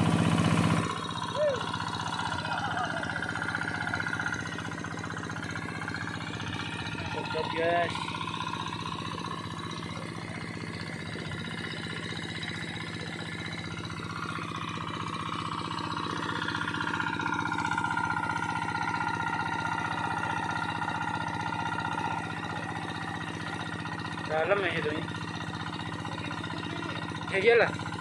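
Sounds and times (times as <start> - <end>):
small engine driving pump: 0.0 - 28.0.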